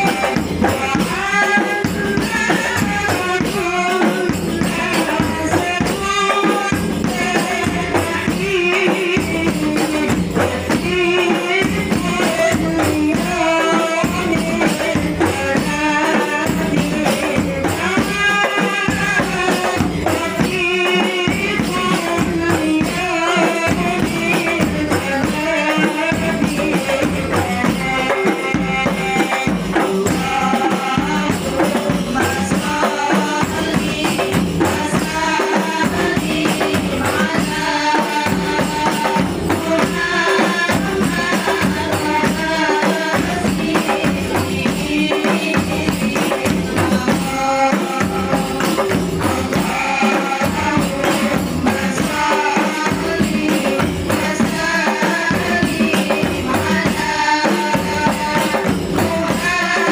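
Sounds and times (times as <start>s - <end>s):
frame drums beating: 0.0s - 59.9s
women singing together: 0.0s - 59.9s.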